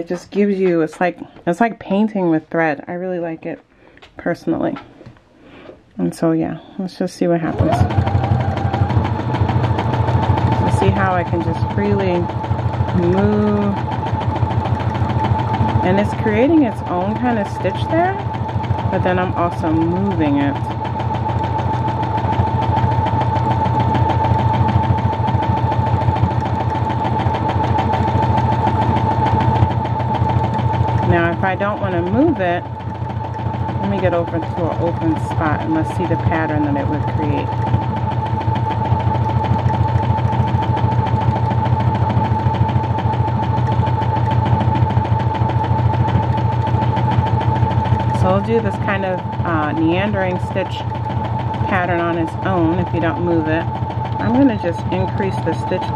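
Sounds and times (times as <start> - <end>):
sewing machine motor whine: 7.4 - 55.9
rapid needle clicking: 7.6 - 55.9.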